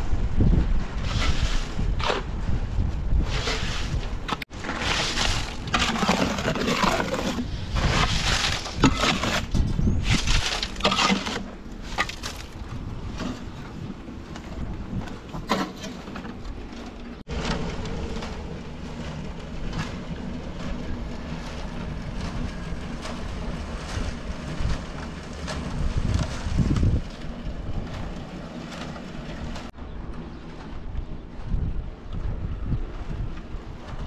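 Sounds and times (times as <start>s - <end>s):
wind buffeting microphone: 0.0s - 15.5s, 17.3s - 34.0s.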